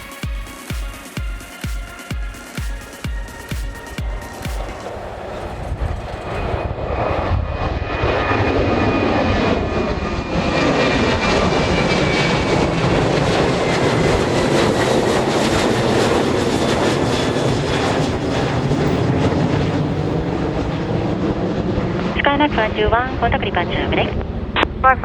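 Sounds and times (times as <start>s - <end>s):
jet engines roaring with whine: 0.0s - 25.0s.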